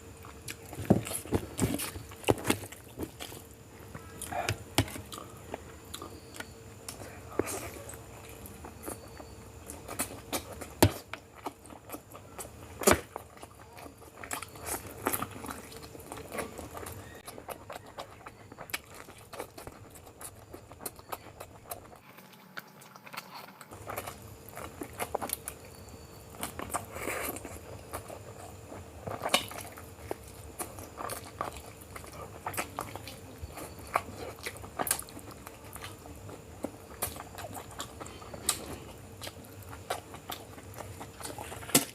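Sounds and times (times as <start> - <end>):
person chewing: 0.0 - 41.9
eating crunches: 0.1 - 41.9.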